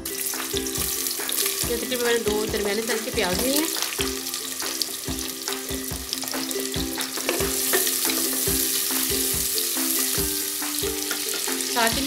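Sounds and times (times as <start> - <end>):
background music with beat: 0.0 - 12.0
onions sizzling in hot oil: 0.0 - 12.0.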